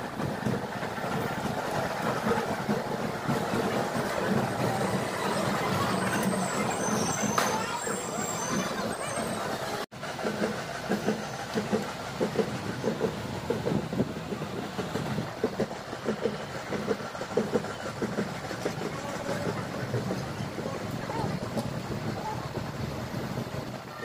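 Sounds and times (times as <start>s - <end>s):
train running rumble: 0.0s - 24.0s
wheels clattering over rails: 0.0s - 24.0s.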